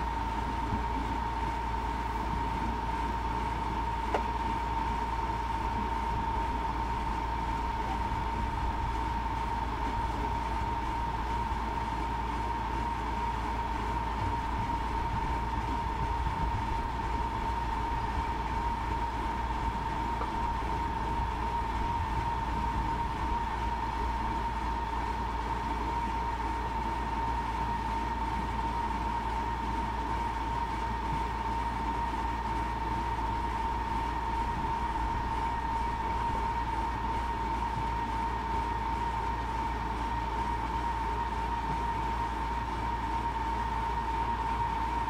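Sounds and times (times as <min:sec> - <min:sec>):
harvester mechanical drone: 0:00.0 - 0:45.0
high conveyor whine: 0:00.0 - 0:45.0.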